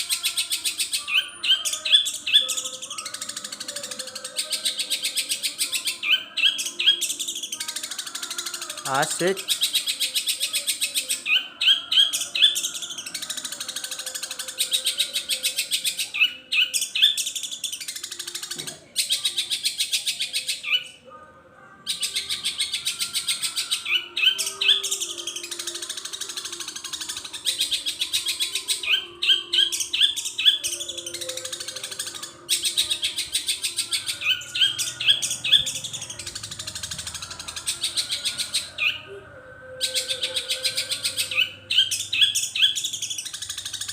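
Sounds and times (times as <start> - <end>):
shrike chattering song: 0.0 - 20.9, 21.9 - 43.9.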